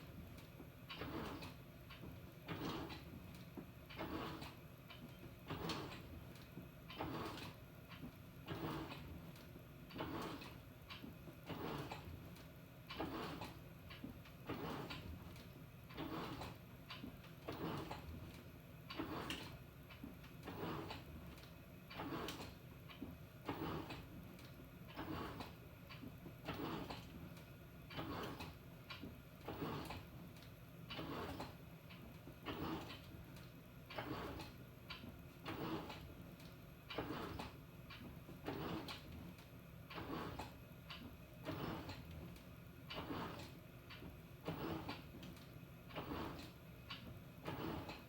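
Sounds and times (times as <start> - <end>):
washing machine hum: 0.0 - 48.0
washing machine pulsator strokes: 0.0 - 48.0.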